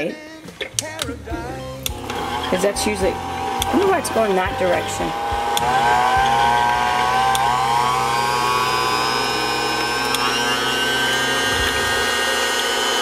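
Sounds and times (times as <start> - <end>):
electric hand mixer whirring: 1.8 - 13.0.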